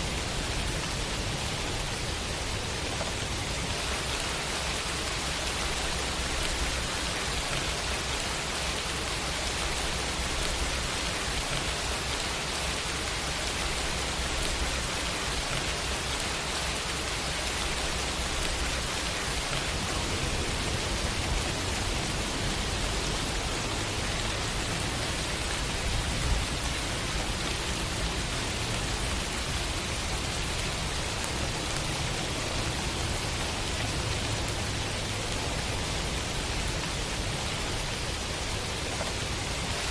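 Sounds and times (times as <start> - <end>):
steady rain on city surfaces: 0.0 - 39.9.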